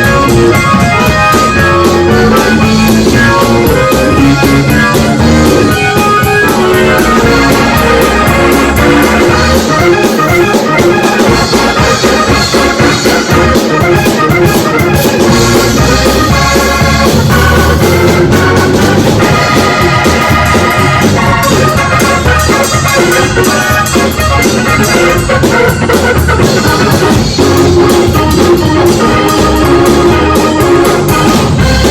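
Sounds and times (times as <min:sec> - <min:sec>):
drums keeping a beat: 0:00.0 - 0:31.9
electric organ chords: 0:00.0 - 0:31.9.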